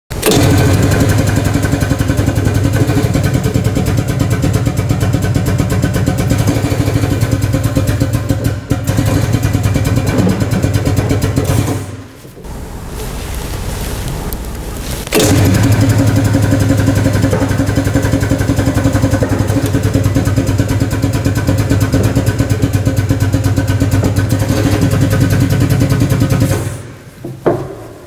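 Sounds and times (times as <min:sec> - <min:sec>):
engine running with rapid pulse: 0:00.2 - 0:26.7.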